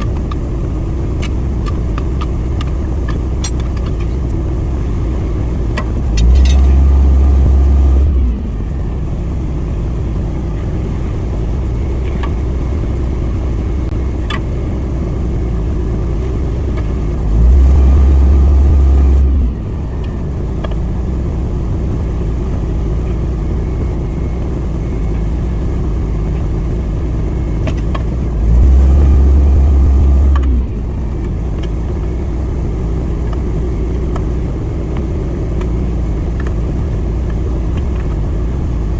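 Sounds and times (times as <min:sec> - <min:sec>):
low engine rumble: 0:00.0 - 0:38.9.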